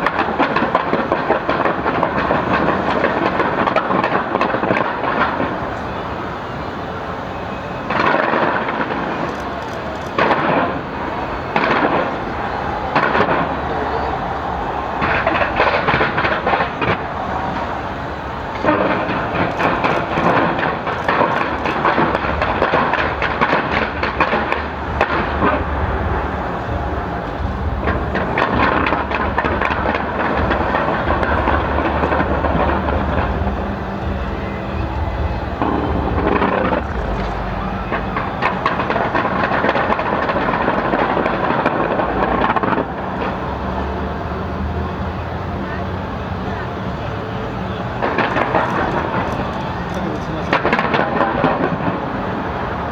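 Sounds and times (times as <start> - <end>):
fireworks crackling and popping: 0.0 - 52.9.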